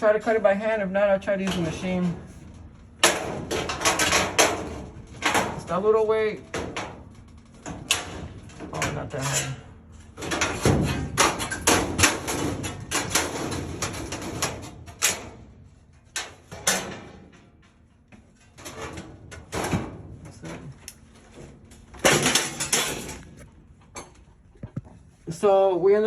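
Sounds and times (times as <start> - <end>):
metal crinkling: 1.2 - 25.4.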